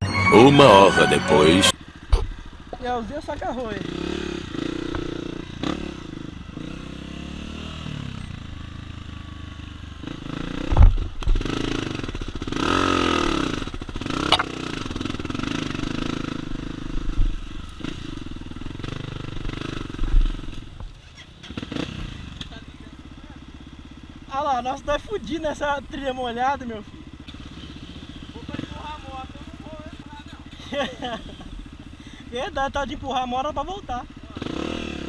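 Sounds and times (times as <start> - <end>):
motorcycle engine revving: 1.7 - 35.0.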